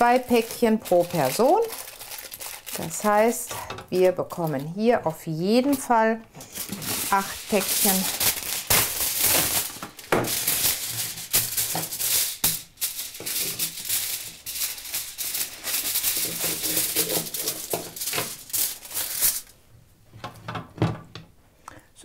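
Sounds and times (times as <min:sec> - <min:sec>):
aluminium foil crinkling: 0:00.0 - 0:19.6.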